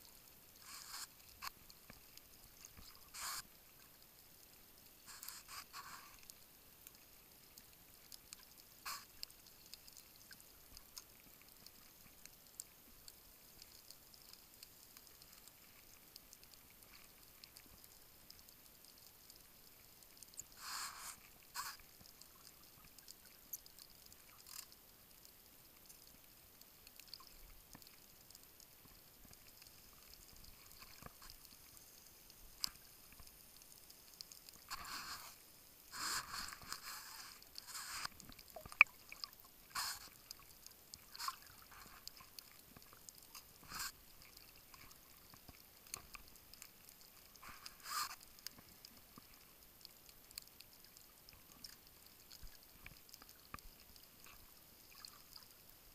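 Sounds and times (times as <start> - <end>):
faint underwater hiss: 0.0 - 55.9.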